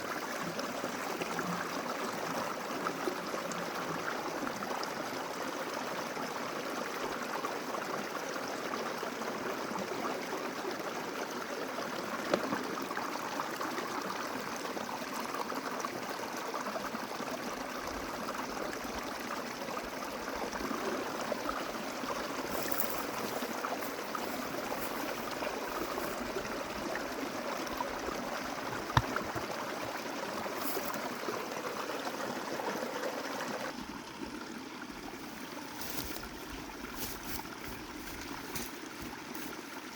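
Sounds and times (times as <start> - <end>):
mountain creek running: 0.0 - 39.9.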